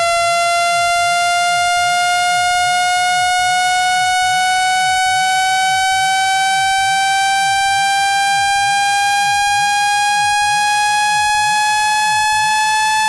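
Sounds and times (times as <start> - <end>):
buzzy electronic tone rising: 0.0 - 13.0.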